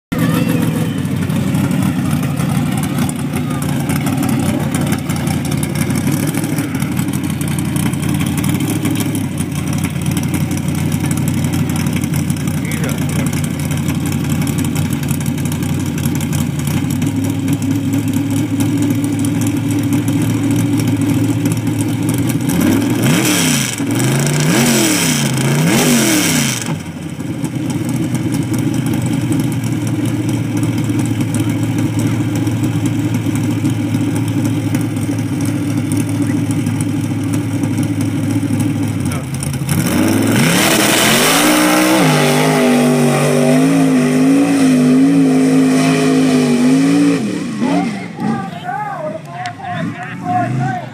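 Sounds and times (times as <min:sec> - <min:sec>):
engine idling and revving: 0:00.0 - 0:50.9.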